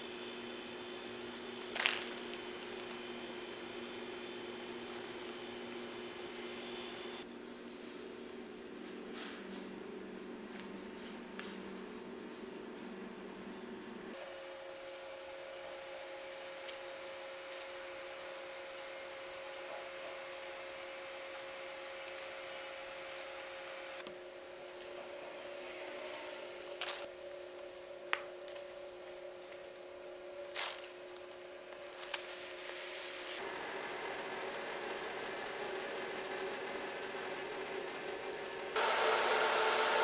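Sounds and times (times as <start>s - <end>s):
kitchen hum with held tones: 0.0s - 40.0s.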